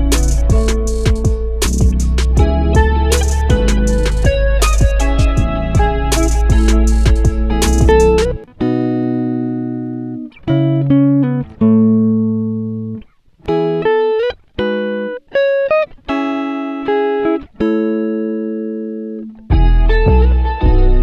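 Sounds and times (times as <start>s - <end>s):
plucked guitar music: 0.0s - 21.0s.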